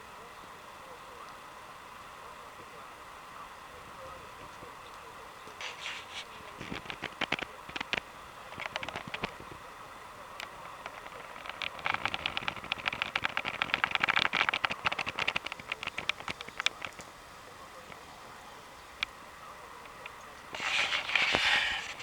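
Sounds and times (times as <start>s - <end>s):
wood fire crackling: 4.3s - 22.0s.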